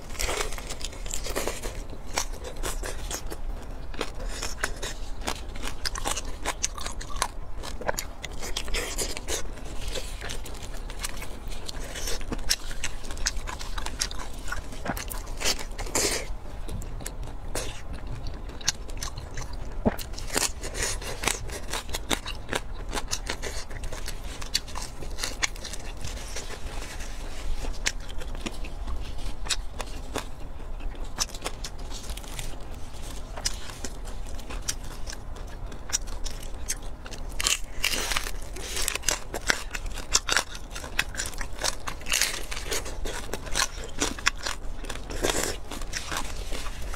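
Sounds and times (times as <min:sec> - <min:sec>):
crunchy chewing: 0:00.0 - 0:46.9.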